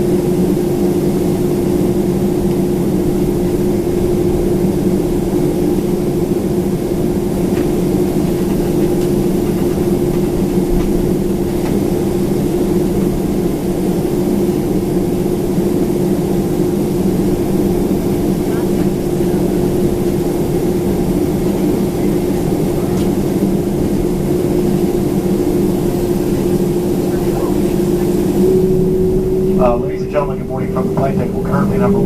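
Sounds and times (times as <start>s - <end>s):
jet engines idling in cabin: 0.0s - 32.0s.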